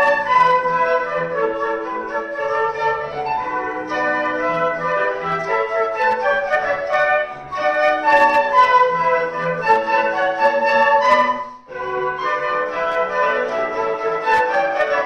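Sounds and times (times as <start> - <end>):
flute ensemble melody: 0.0 - 15.0
grand piano accompaniment: 0.0 - 15.0.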